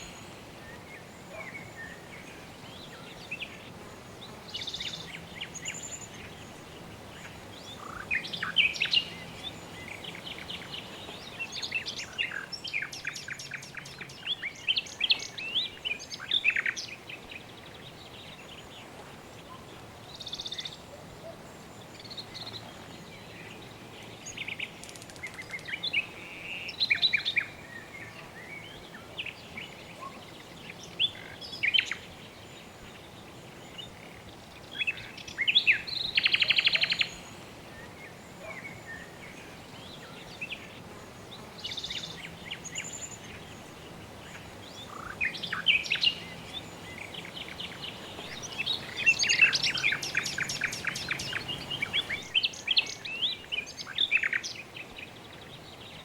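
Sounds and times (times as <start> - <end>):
birds chirping: 0.0 - 56.0
low background noise: 0.0 - 56.0.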